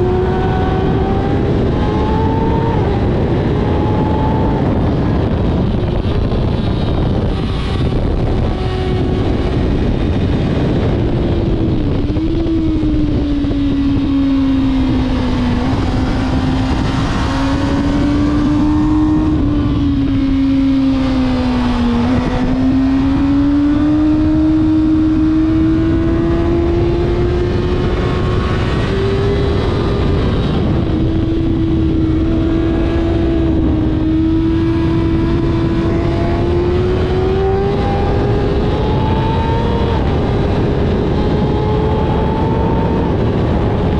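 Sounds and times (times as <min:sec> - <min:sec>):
motorcycle engine running at speed: 0:00.0 - 0:43.9
wind rushing over microphone: 0:00.0 - 0:43.9.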